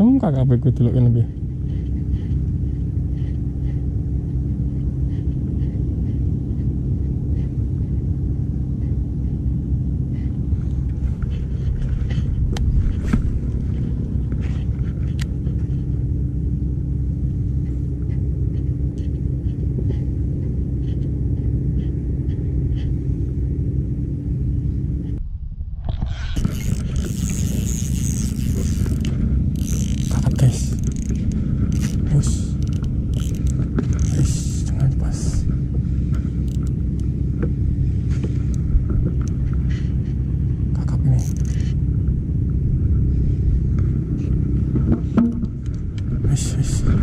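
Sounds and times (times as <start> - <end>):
low rumble with hum: 0.0 - 47.0.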